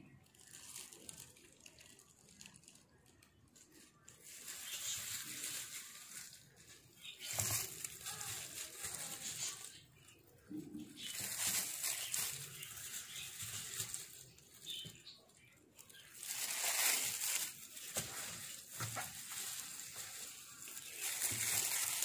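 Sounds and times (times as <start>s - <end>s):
plastic glove rustling: 0.0s - 22.0s.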